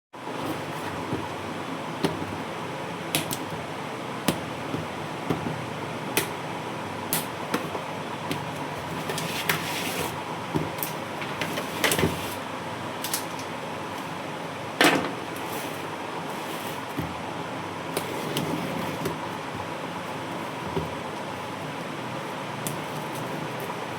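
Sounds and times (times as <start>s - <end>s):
steady background hum: 0.2s - 23.9s.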